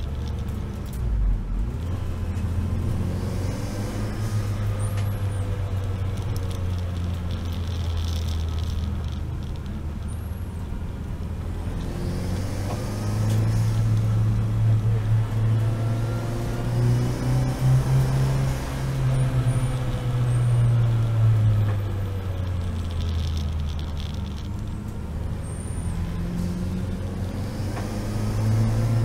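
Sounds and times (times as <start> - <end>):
race car engine: 0.0 - 29.0
road noise: 0.0 - 29.0.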